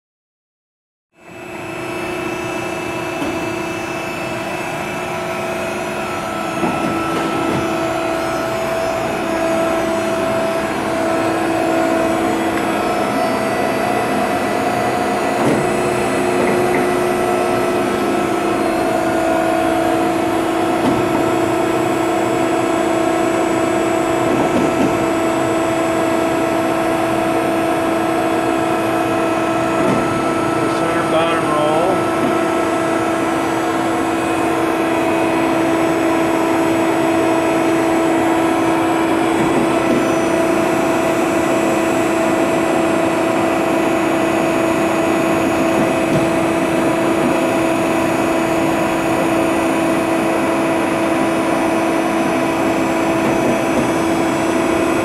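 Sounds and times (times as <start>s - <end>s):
machine hum with held tones: 1.2s - 55.0s.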